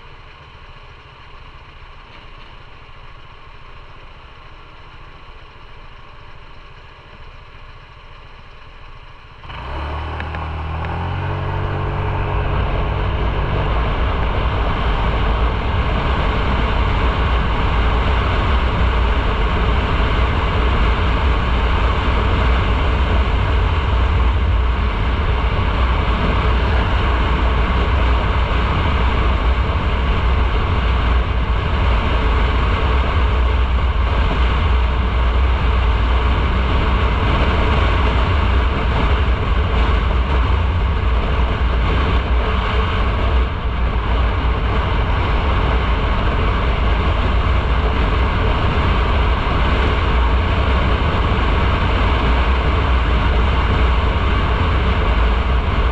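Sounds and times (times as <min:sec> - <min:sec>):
motorcycle engine rumble: 0:00.0 - 0:55.9
wind rush: 0:10.2 - 0:55.9.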